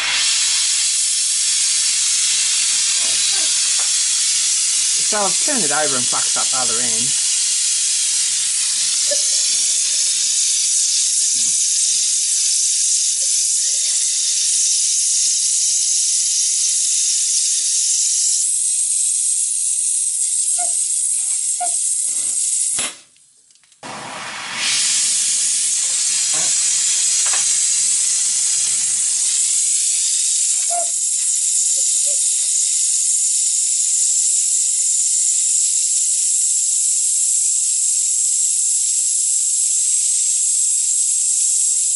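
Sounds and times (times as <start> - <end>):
gas torch flame hissing: 0.0 - 23.2, 23.8 - 41.9.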